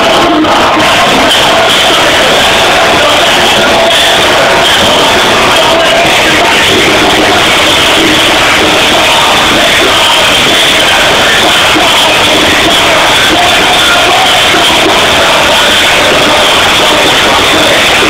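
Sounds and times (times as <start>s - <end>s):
distorted live rap music: 0.0s - 18.0s.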